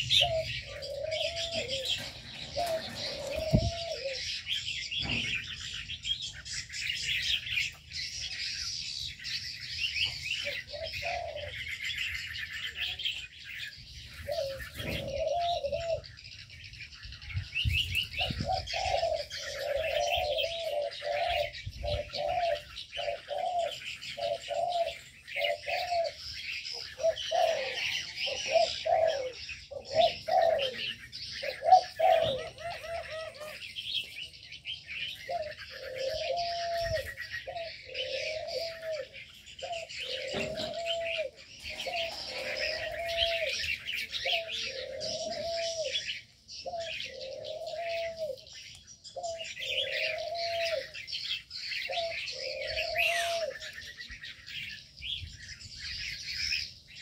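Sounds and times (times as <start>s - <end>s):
doves cooing: 0.0s - 57.0s
small birds chirping: 0.0s - 57.0s.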